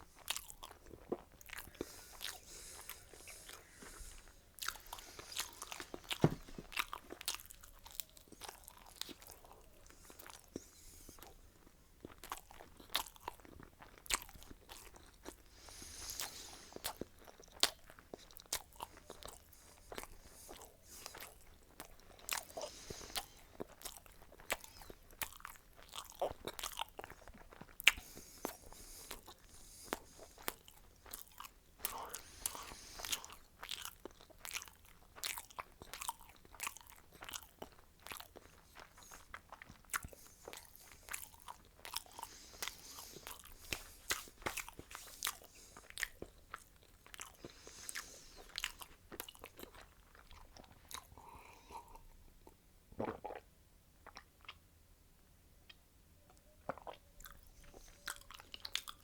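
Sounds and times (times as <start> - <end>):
crunchy chewing of food: 0.0 - 54.7, 55.6 - 59.0.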